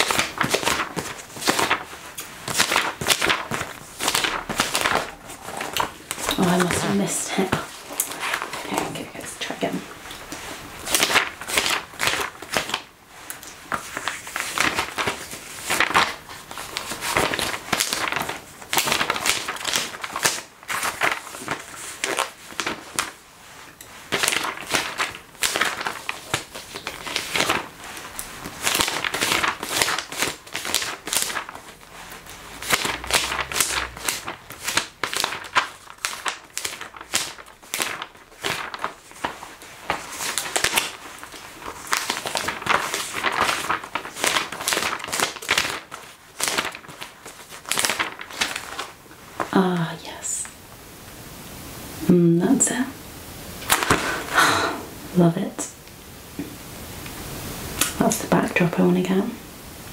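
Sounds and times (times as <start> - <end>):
magazine pages turning and rustling: 0.0 - 50.2, 53.6 - 54.4, 57.7 - 59.0.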